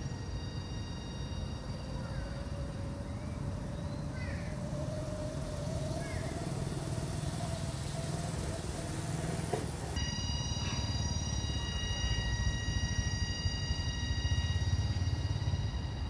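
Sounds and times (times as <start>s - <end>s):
distant engine drone: 0.0s - 16.0s
faint chirps: 0.0s - 16.0s
high-pitched whine: 0.0s - 16.0s.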